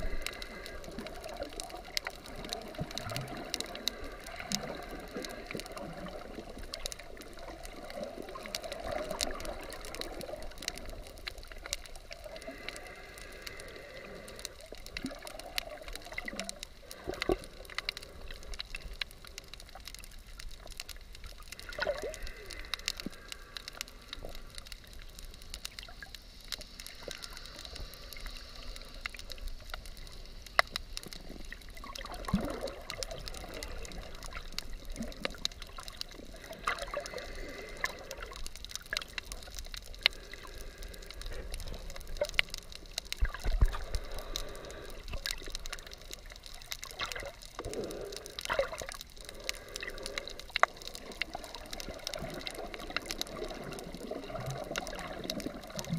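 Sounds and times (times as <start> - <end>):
crackling clicks: 0.0 - 55.9
underwater water bubbling: 0.0 - 55.9.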